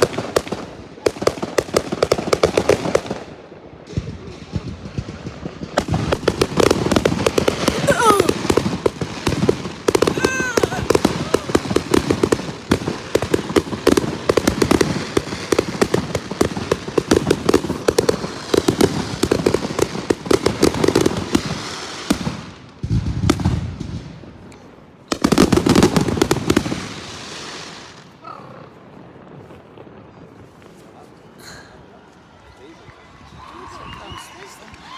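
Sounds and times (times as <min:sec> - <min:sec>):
fireworks crackling bangs: 0:00.0 - 0:31.9.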